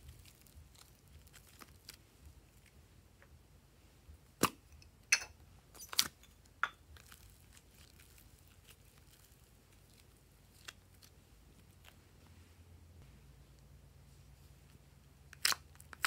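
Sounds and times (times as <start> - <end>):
soft clay handling: 0.0 - 16.0.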